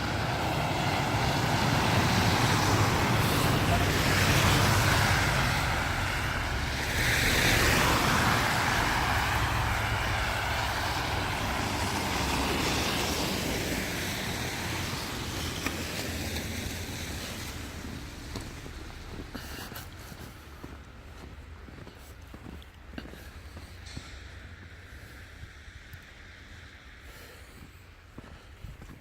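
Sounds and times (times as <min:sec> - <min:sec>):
vehicle passing on snowy street: 0:00.0 - 0:29.0.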